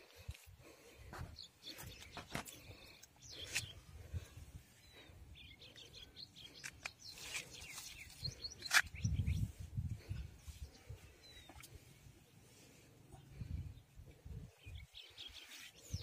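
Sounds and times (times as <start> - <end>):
birds chirping: 0.6 - 16.0.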